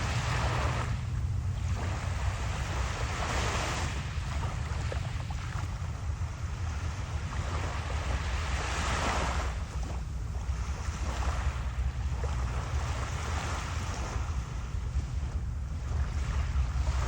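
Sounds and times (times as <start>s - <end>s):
waves washing onto shore: 0.0s - 17.0s
wind buffeting microphone: 0.0s - 17.0s.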